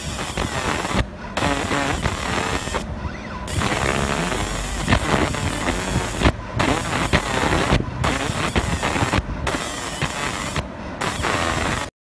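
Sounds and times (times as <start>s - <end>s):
laser hiss and crackle on metal: 0.0s - 2.8s, 3.5s - 11.9s
low machine hum: 0.0s - 11.8s.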